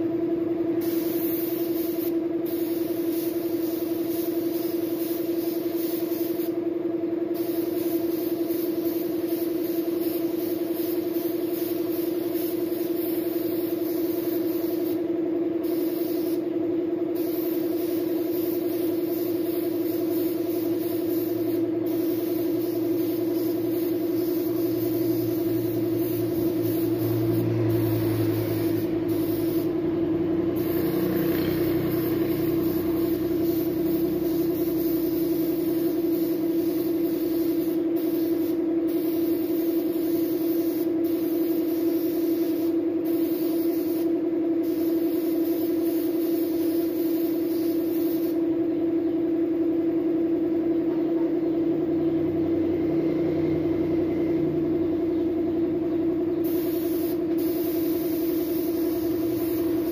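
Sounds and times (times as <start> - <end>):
air compressor humming: 0.0 - 59.9
spray gun hissing: 0.8 - 6.6, 7.4 - 16.5, 17.1 - 29.8, 30.5 - 48.4, 56.4 - 59.9.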